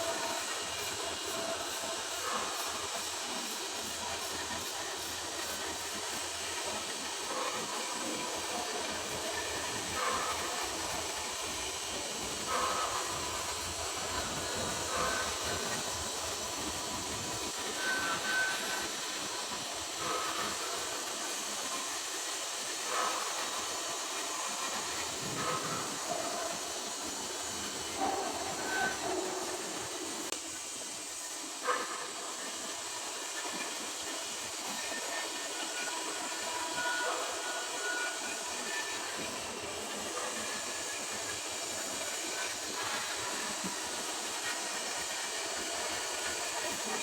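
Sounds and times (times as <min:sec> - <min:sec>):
arc welding hiss: 0:00.0 - 0:47.0.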